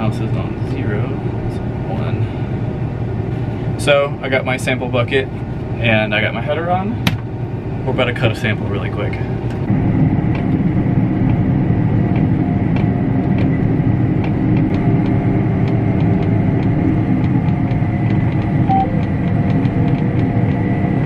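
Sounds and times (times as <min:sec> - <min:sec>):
combine harvester drone: 0:00.0 - 0:21.0
high whine: 0:00.0 - 0:21.0.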